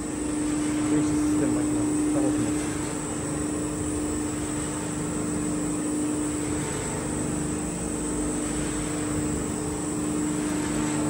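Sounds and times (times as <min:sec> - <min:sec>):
oil press machine droning: 0:00.0 - 0:11.0.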